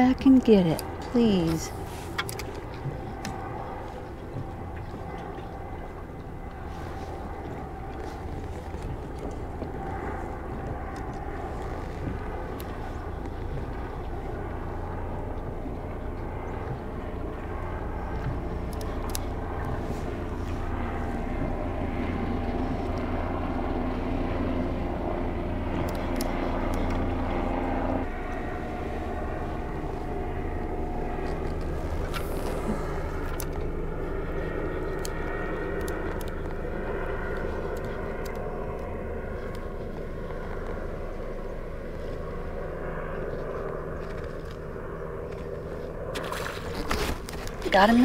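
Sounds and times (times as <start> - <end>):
distant engine drone: 0.0 - 48.0.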